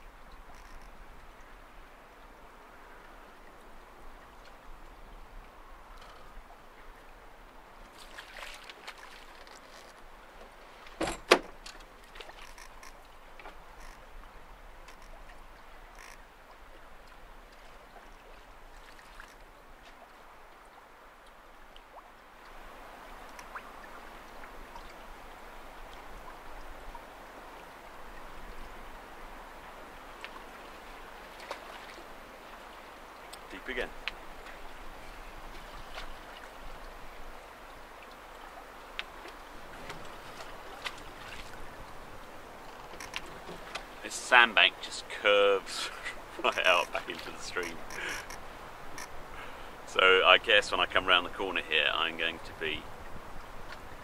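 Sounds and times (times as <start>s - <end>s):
water lapping along hull: 0.0s - 54.0s.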